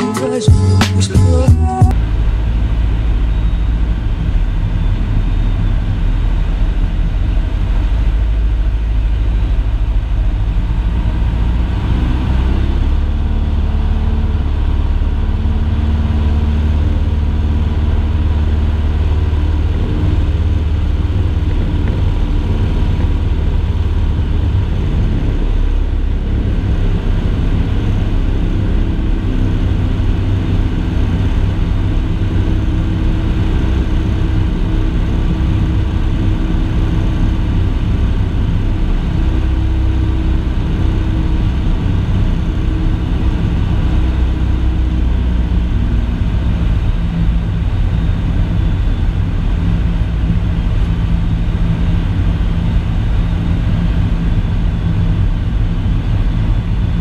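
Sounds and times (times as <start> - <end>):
aircraft engine and propeller droning: 1.9 - 57.0.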